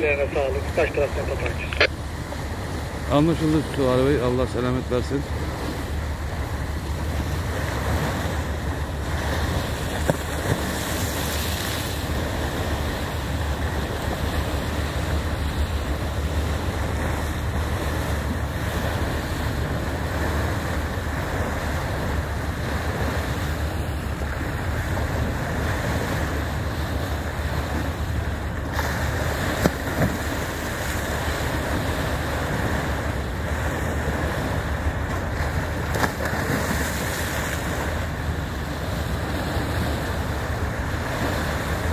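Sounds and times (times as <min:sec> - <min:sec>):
water rushing along boat hull: 0:00.0 - 0:41.9.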